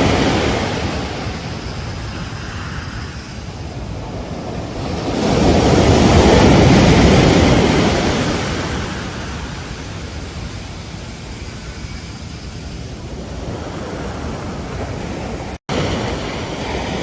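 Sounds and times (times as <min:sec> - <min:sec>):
ocean surf washing on beach: 0:00.0 - 0:17.0.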